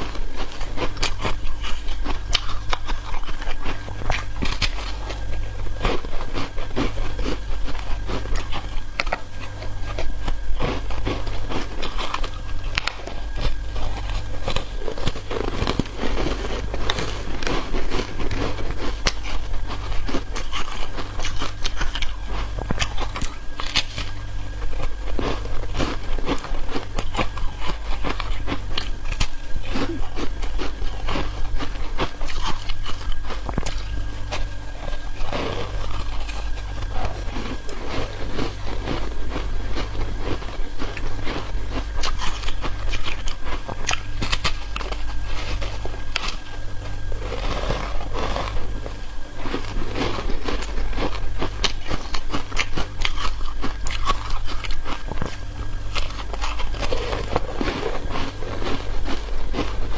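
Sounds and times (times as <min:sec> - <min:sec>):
crunchy chewing: 0:00.0 - 0:59.9
low hum: 0:00.0 - 0:59.9.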